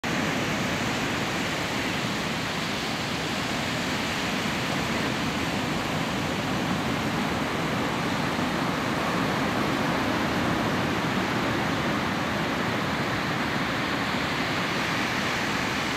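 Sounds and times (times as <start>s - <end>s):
ocean surf rushing: 0.1s - 15.9s.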